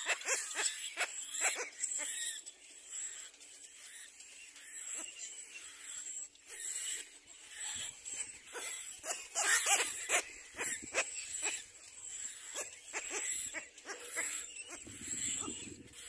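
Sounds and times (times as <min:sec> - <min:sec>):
bird chick begging calls: 0:00.0 - 0:02.4, 0:04.8 - 0:16.0.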